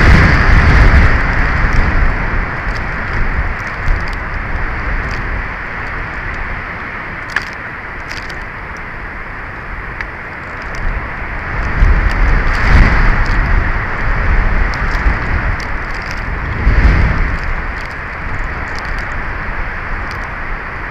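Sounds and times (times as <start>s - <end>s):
small crackles: 0.0s - 20.9s
strong wind hiss: 0.0s - 20.9s
wind gust rumbling on microphone: 0.0s - 20.9s.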